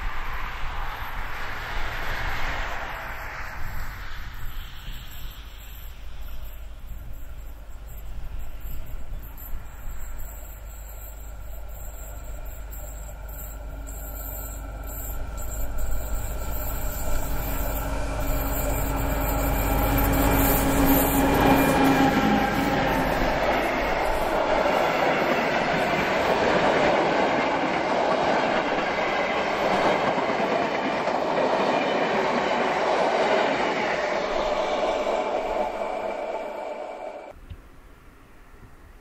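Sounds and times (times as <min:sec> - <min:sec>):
diesel locomotive engine droning: 0:00.0 - 0:37.4
train wheels rumbling and clacking: 0:00.0 - 0:37.4.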